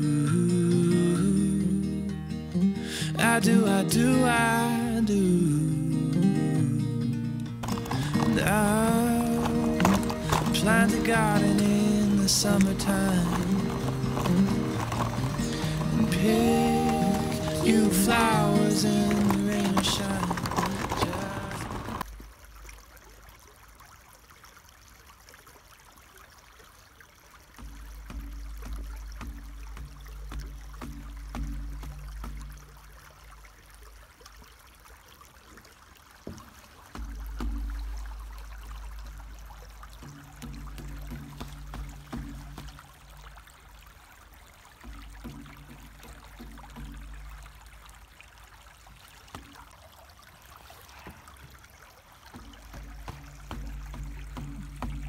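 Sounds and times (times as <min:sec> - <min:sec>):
brook trickling over stones: 0:00.0 - 0:55.0.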